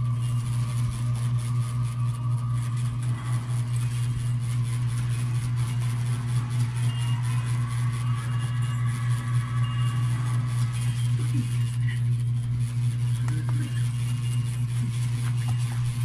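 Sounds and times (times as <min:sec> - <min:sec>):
electric fan motor humming: 0:00.0 - 0:16.0.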